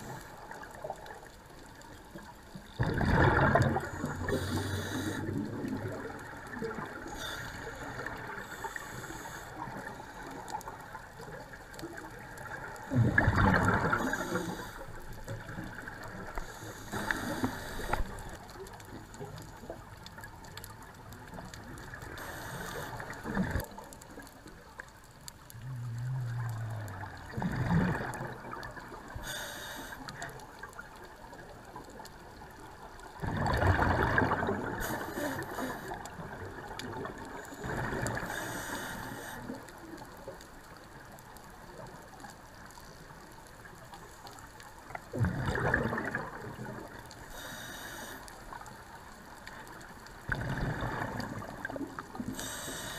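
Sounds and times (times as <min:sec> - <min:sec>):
exhaled bubbles underwater: 0:00.0 - 0:42.2, 0:44.8 - 0:47.6, 0:48.4 - 0:52.9
low water hiss: 0:00.0 - 0:52.9.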